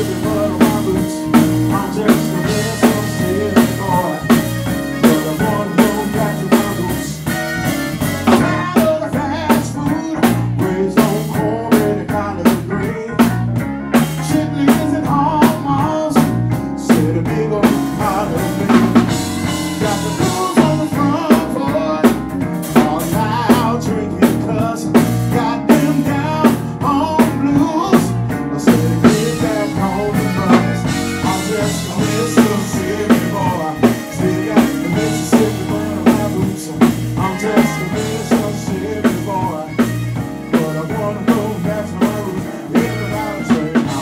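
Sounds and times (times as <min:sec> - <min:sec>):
drum kit beat: 0:00.0 - 0:44.0
electric guitar: 0:00.0 - 0:44.0
live band playing: 0:00.0 - 0:44.0.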